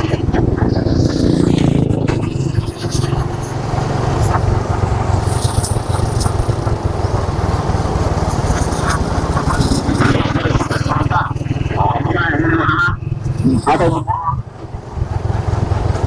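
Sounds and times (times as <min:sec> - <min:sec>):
motorcycle engine droning: 0:00.0 - 0:16.0
road noise: 0:00.0 - 0:16.0.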